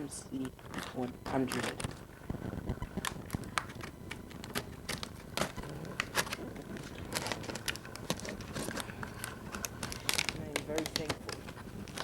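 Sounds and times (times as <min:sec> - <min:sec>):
packaging crinkling: 0:00.4 - 0:12.0.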